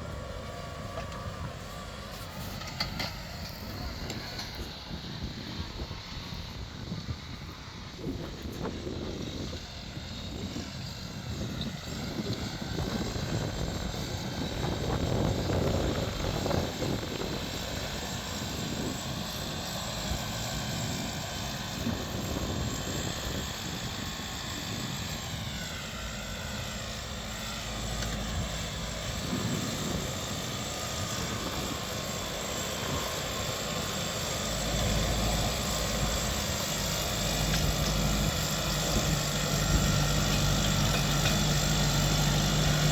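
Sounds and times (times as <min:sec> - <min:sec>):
tractor diesel engine under load: 0:00.0 - 0:06.6, 0:11.2 - 0:42.9.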